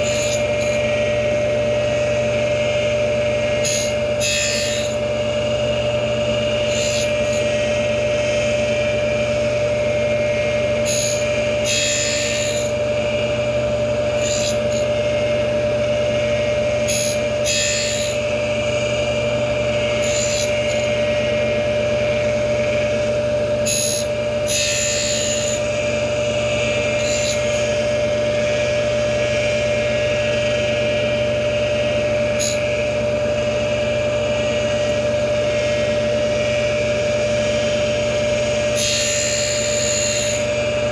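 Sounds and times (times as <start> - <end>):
grinder high whine: 0.0 - 40.9
grinding wheel hissing on steel: 0.0 - 40.9.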